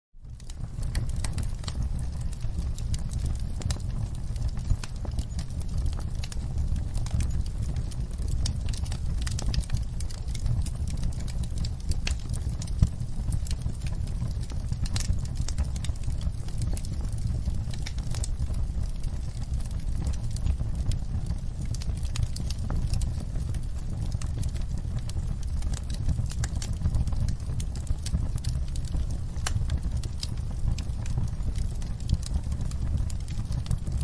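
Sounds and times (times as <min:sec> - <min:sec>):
low fire rumble: 0:00.2 - 0:34.0
wood fire crackling: 0:00.2 - 0:34.0
sharp pops of fire: 0:00.3 - 0:34.0.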